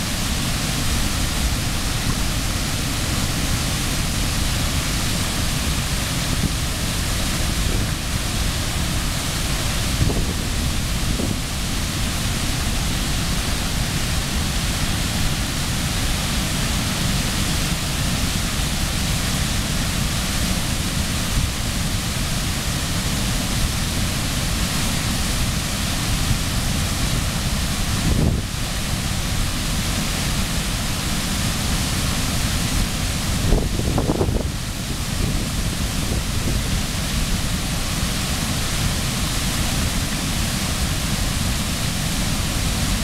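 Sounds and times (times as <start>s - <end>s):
water rushing over a spillway: 0.0s - 43.0s.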